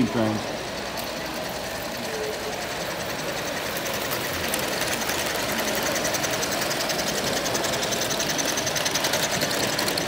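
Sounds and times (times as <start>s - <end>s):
model train whirring: 0.0s - 10.0s
wheels clattering on rail: 0.0s - 10.0s.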